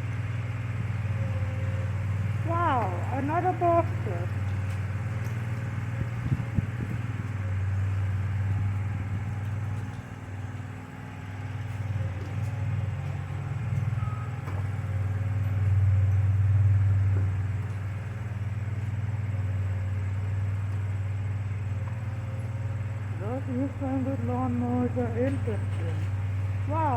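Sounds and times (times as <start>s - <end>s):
lawn mower engine running: 0.0s - 26.9s.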